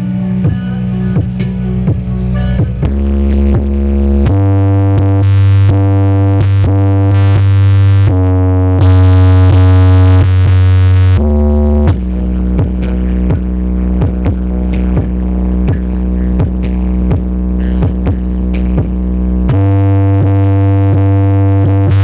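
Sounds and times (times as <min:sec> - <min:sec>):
electronic dance music: 0:00.0 - 0:22.0.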